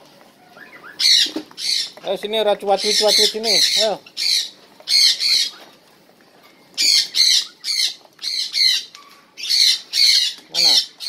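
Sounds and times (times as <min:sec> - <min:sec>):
cockatiels squawking: 0:00.4 - 0:02.0, 0:02.6 - 0:05.8, 0:06.8 - 0:11.0.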